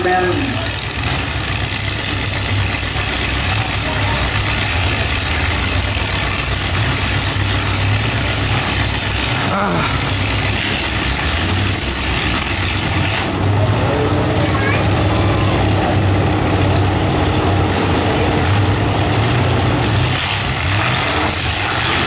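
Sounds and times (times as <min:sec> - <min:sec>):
car engines idling and revving: 0:00.0 - 0:22.0.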